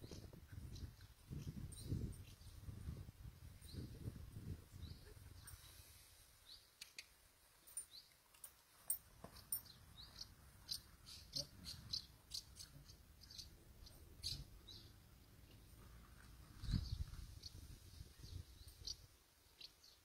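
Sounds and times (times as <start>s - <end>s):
small bird chirping: 0.0s - 8.2s, 8.9s - 15.8s, 16.5s - 20.0s.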